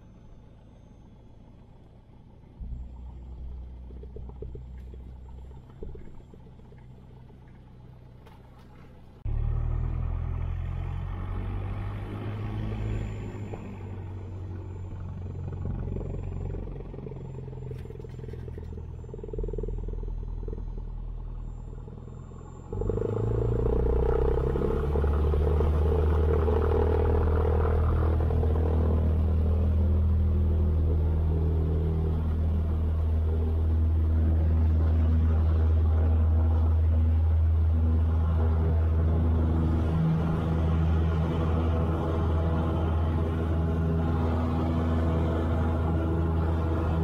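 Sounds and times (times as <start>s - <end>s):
propeller plane engine: 0.0s - 47.0s.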